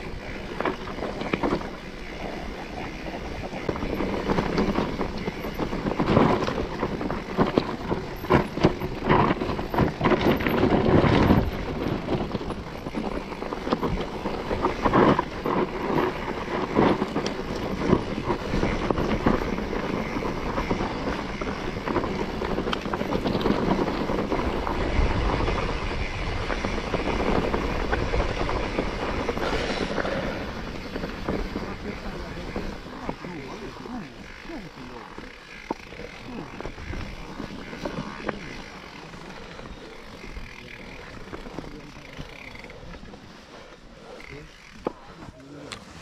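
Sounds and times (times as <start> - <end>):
vehicle running on rough track: 0.0 - 46.0.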